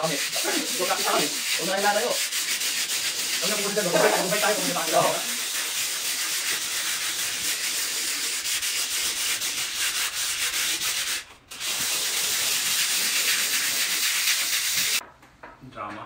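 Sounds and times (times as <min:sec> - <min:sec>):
sandpaper rubbing on wall: 0:00.0 - 0:15.0.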